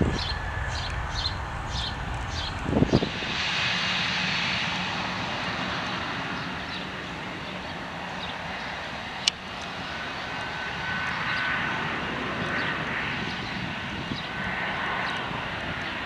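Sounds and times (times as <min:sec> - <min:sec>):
jet engines whining: 0:00.0 - 0:16.0
low wind rumble: 0:00.0 - 0:16.0.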